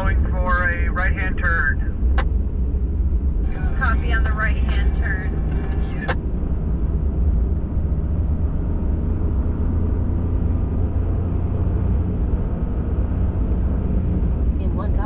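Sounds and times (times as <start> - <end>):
pickup engine and tyre rumble: 0.0 - 15.0.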